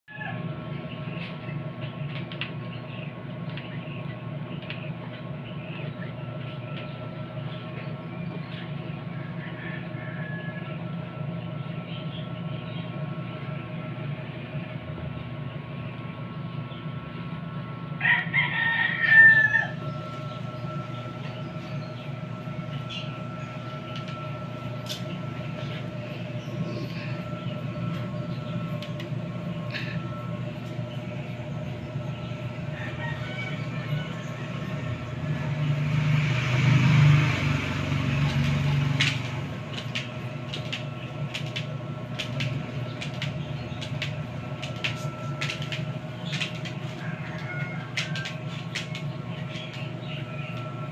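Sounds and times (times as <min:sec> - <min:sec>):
washing machine motor hum: 0:00.1 - 0:50.9.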